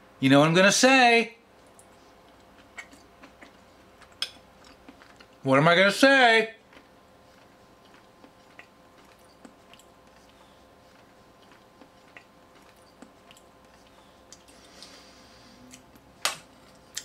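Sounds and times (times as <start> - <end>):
faint steady hum: 0.0 - 17.0
person chewing with wet mouth noises: 1.6 - 5.4, 6.6 - 17.0.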